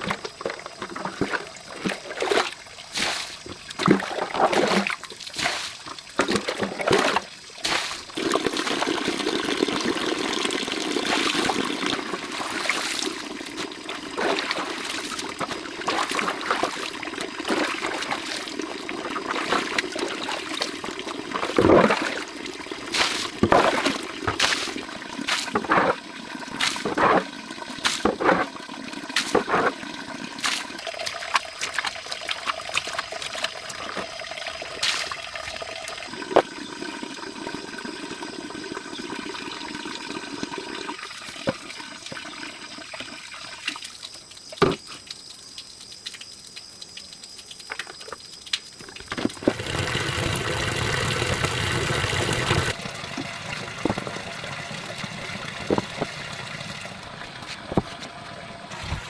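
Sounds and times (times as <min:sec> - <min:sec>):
water running and splashing: 0:00.0 - 0:59.0.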